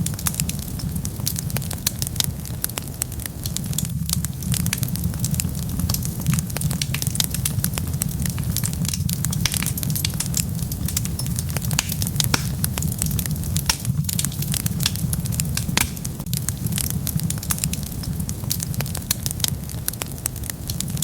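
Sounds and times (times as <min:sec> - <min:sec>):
fire crackling and popping: 0:00.0 - 0:21.0
flames rumbling: 0:00.0 - 0:21.0.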